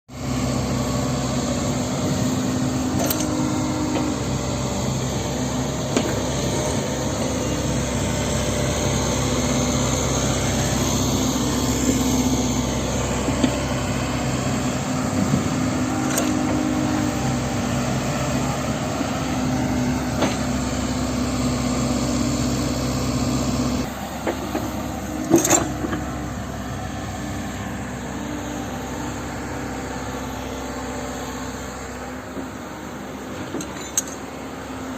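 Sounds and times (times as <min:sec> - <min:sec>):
heavy diesel machinery running: 0:00.1 - 0:34.9.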